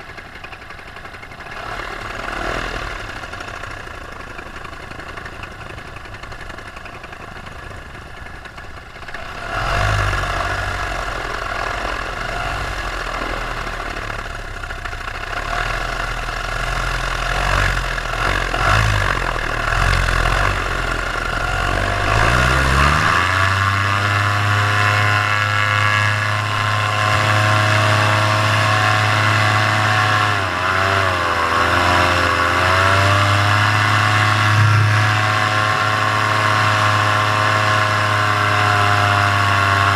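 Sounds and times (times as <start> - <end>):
paramotor engine running: 0.0 - 39.9.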